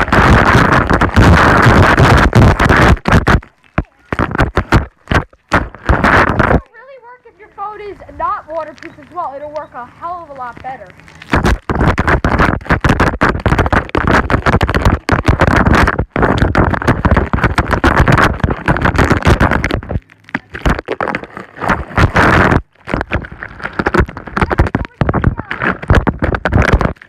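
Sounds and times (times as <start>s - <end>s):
hose water hitting microphone: 0.0s - 27.0s.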